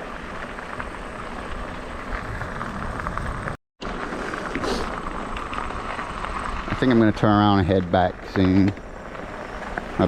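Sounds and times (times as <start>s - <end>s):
wind and tyre noise: 0.0s - 10.0s.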